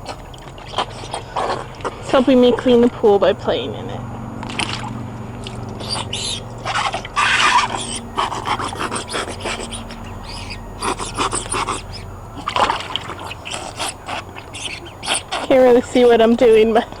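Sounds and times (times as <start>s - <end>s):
dog panting: 0.0s - 2.8s, 4.8s - 17.0s
dog splashing in water: 0.0s - 2.9s, 4.4s - 17.0s.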